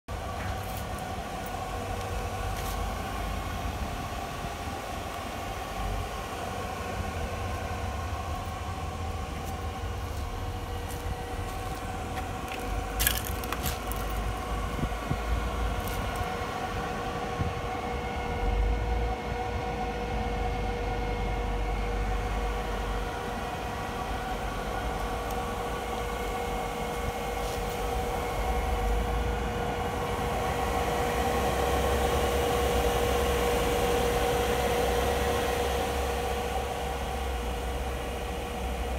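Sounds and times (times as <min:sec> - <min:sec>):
electric motor humming and whining: 0:00.1 - 0:38.9.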